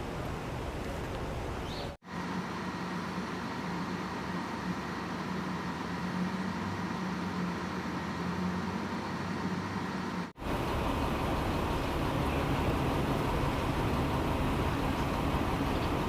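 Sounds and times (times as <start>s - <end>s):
constant low drone: 0.0s - 16.0s
idling vehicle engines rumble: 0.1s - 16.0s.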